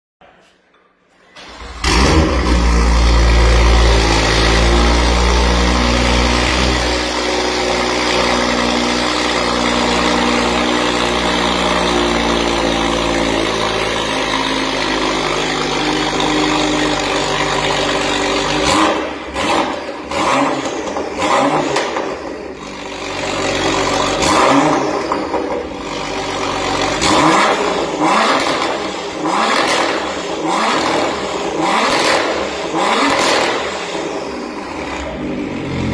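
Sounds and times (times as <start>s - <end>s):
car engine starting and idling: 1.2s - 35.9s.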